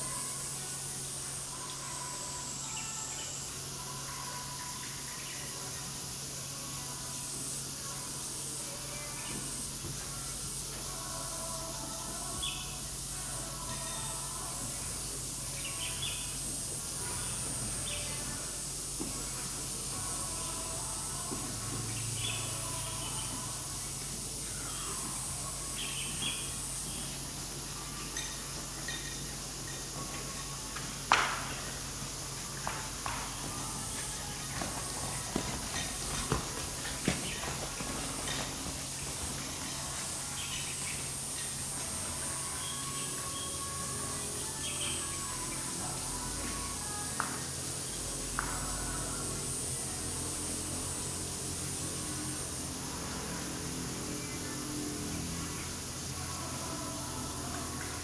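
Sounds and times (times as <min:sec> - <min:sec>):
insects buzzing: 0:00.0 - 0:58.0.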